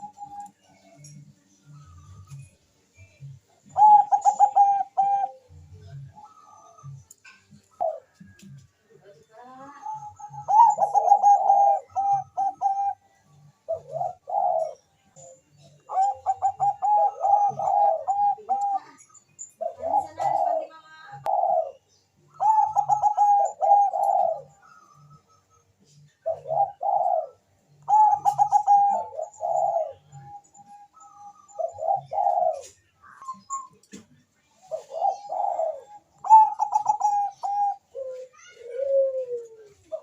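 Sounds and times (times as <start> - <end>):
dove cooing: 0.0 - 0.6, 3.6 - 8.7, 9.4 - 33.8, 34.5 - 40.0.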